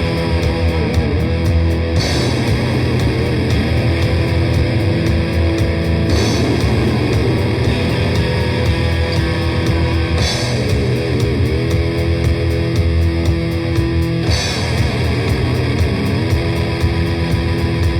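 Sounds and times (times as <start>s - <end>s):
distorted guitar and bass riffing: 0.0s - 17.9s
fast drum machine beat: 0.0s - 17.9s.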